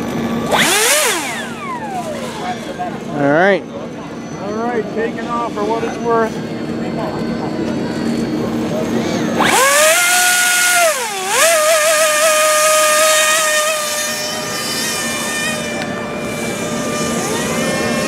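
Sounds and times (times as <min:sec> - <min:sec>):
electric motor and propeller whine: 0:00.0 - 0:18.0.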